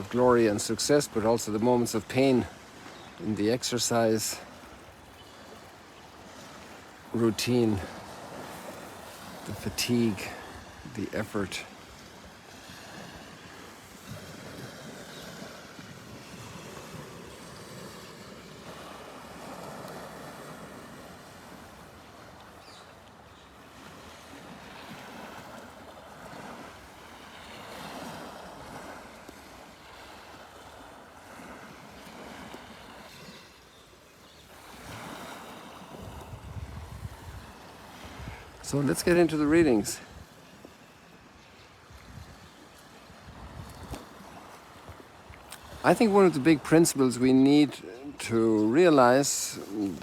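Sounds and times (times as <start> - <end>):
water lapping at shore: 0.0 - 50.0
wind: 0.0 - 50.0.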